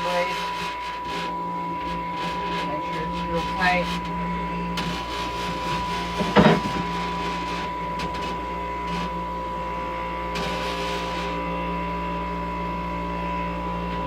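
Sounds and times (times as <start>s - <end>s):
bench grinder humming: 0.0s - 14.0s.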